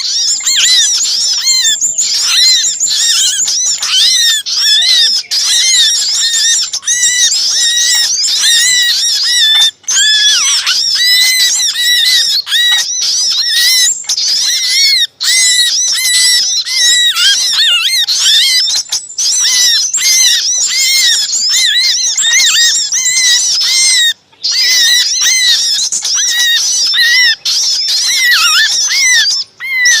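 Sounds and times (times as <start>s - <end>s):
small birds chattering alarm calls: 0.0s - 30.0s.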